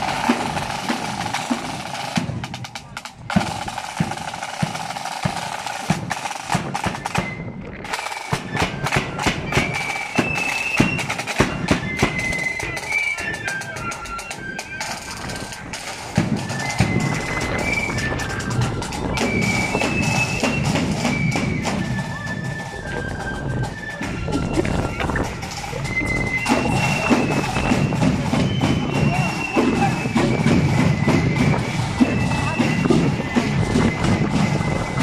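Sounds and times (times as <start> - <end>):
flute melody: 0.0 - 35.0
side drums rolling: 0.0 - 35.0.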